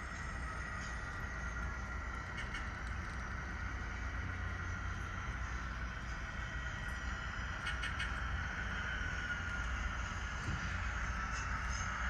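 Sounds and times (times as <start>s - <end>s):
railroad car wheels rumbling: 0.0s - 12.0s
train wheel flange squeal: 0.0s - 12.0s.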